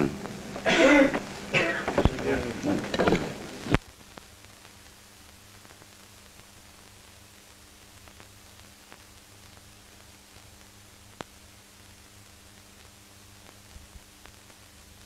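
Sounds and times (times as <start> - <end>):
faint crackles: 0.0 - 15.0
faint low hum: 0.0 - 15.0
film soundtrack hiss: 0.0 - 15.0.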